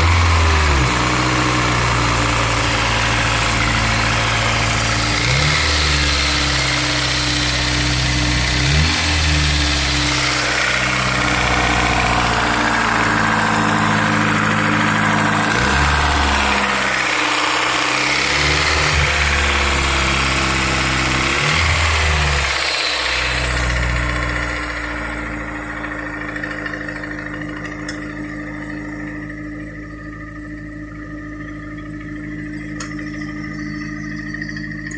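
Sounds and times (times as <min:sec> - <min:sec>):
car engine idling: 0:00.0 - 0:34.9
engine throttle blips: 0:00.0 - 0:34.9.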